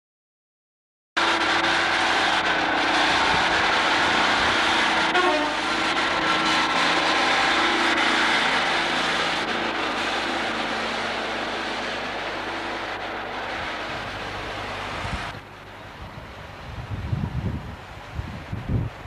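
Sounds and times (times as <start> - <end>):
train engine drone: 1.2 - 19.0
train rolling noise: 1.2 - 19.0.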